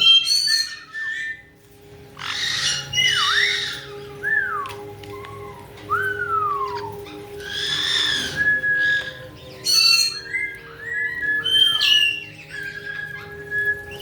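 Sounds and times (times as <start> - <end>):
parrot screeching: 0.0 - 1.5, 2.2 - 4.1, 5.2 - 14.0
parrot squawking: 0.0 - 1.5, 2.2 - 4.2, 5.0 - 14.0
parrots whistling: 0.0 - 1.5, 2.2 - 14.0.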